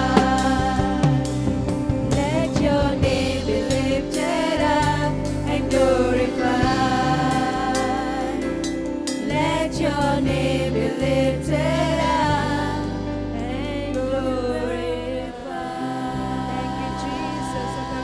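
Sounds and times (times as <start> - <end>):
bass line: 0.0 - 18.0
keyboard chords: 0.0 - 18.0
people singing worship song: 0.0 - 18.0.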